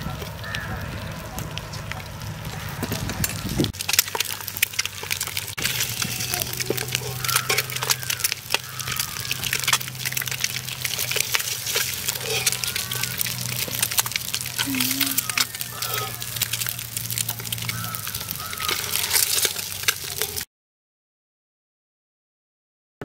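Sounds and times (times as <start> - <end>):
eggs sizzling in a pan: 0.0 - 20.5.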